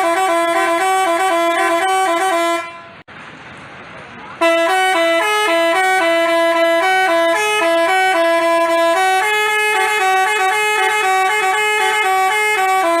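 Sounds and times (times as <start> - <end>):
multi-tone bus horn melody: 0.0 - 3.1, 4.4 - 13.0.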